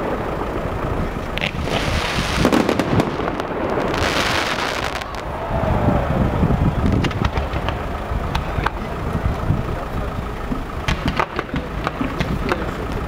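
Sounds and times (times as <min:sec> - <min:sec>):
fireworks popping and crackling: 0:00.0 - 0:05.4, 0:06.7 - 0:09.5, 0:10.5 - 0:13.0
steady low rumble: 0:00.0 - 0:13.0.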